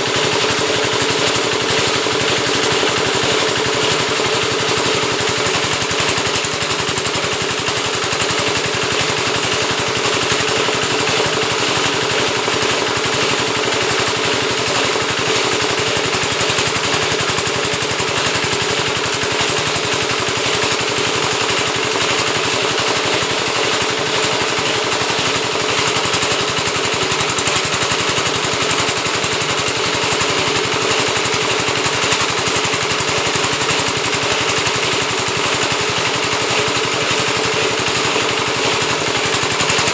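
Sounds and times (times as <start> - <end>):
machine rattling: 0.1 - 39.9.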